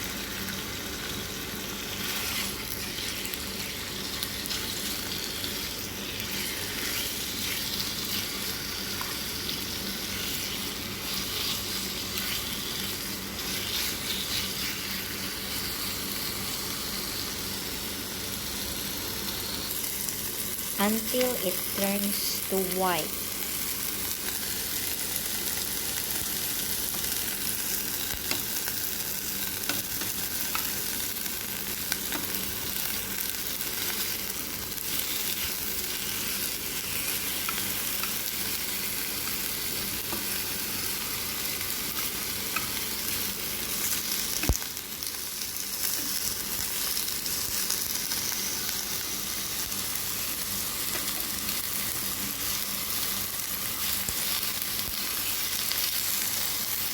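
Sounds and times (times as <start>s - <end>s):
chicken sizzling in a pan: 0.0s - 56.9s.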